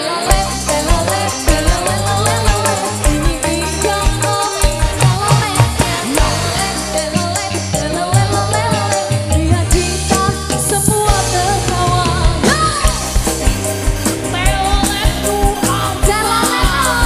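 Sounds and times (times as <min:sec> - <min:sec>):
woman singing into microphone: 0:00.0 - 0:13.3, 0:14.2 - 0:17.0
bass guitar: 0:00.0 - 0:17.0
electric guitar: 0:00.0 - 0:17.0
steady drum beat: 0:00.0 - 0:17.0.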